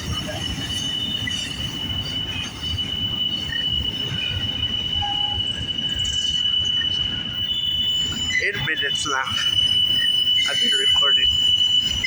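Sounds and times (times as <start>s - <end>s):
freight train rumbling: 0.0s - 12.0s
high-pitched wheel squeal: 0.0s - 12.0s.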